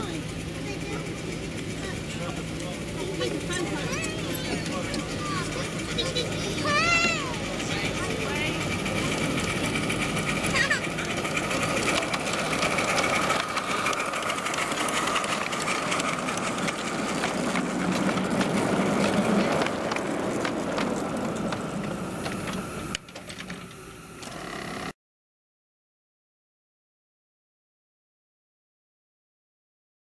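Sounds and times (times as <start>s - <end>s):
miniature train clattering: 0.0s - 24.4s.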